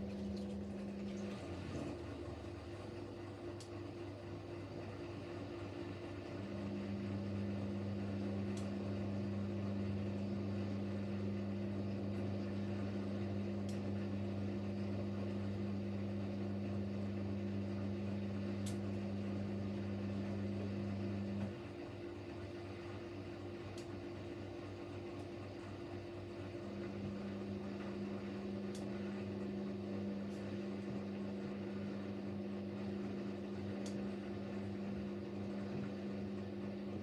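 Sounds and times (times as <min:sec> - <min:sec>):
washing machine drain pump humming: 0:00.0 - 0:37.0.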